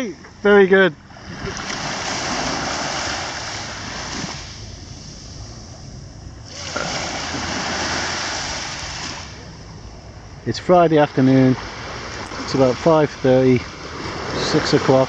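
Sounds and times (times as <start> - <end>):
small waves washing on beach: 0.0 - 15.0.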